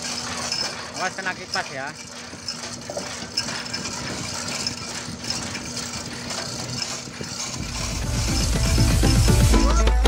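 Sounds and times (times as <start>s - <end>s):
chain hoist clicking: 0.0s - 9.8s
steady machine hum: 0.0s - 10.0s.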